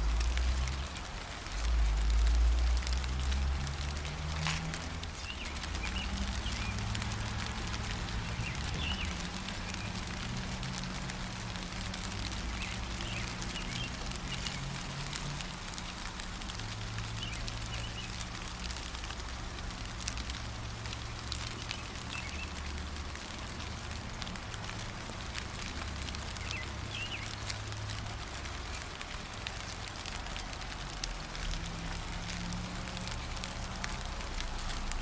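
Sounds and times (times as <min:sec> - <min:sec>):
gentle rain: 0:00.0 - 0:35.0
raindrops ticking: 0:00.0 - 0:35.0.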